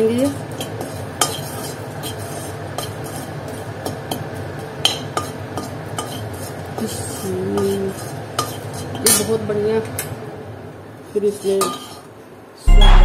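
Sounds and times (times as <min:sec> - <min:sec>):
metal spoon scraping in pan: 0:00.0 - 0:09.6, 0:11.1 - 0:12.2.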